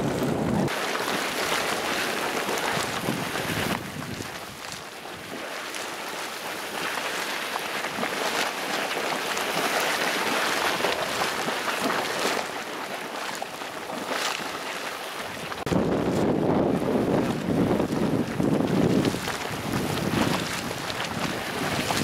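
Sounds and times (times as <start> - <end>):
geyser water splashing and spurting: 0.0 - 22.0.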